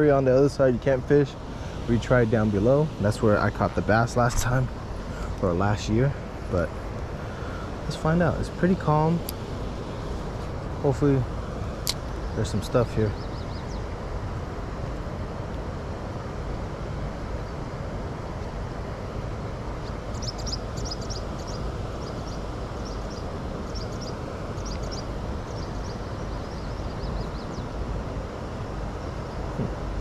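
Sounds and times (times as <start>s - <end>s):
birds chirping: 0.0s - 14.1s, 19.5s - 30.0s.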